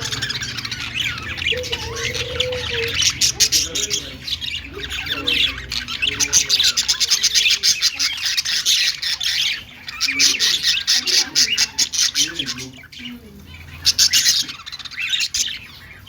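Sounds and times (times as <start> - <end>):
budgerigar chirping: 0.0 - 16.0.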